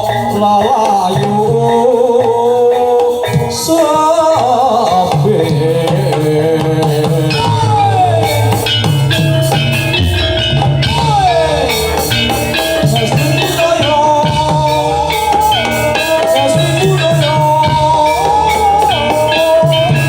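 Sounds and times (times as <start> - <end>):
person singing: 0.0 - 9.6, 10.5 - 20.0
drums beating: 0.0 - 20.0
held instrument tones: 0.0 - 20.0.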